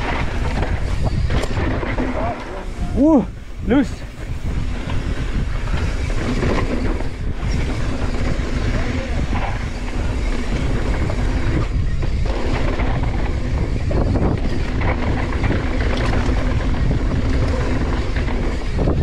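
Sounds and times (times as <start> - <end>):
bike rattling over bumps: 0.0 - 19.0
bike tyres on dirt: 0.0 - 19.0
wind rush on microphone: 0.0 - 19.0.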